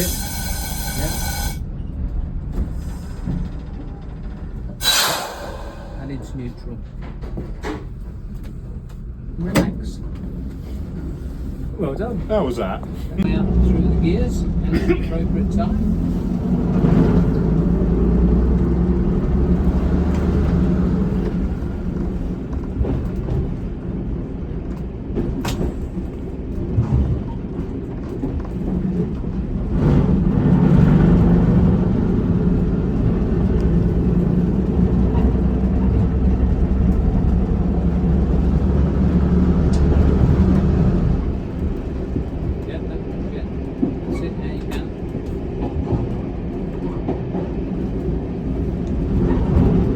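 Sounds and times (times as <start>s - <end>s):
railcar diesel engine: 0.0s - 49.9s.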